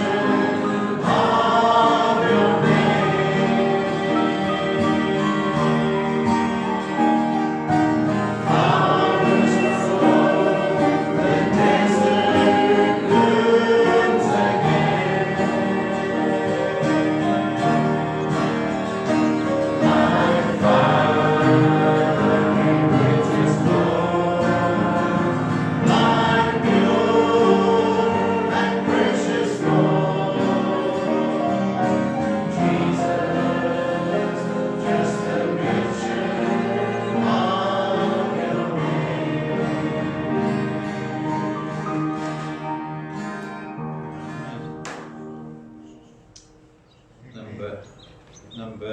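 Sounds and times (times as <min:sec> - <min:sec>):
congregation singing a hymn: 0:00.0 - 0:48.9.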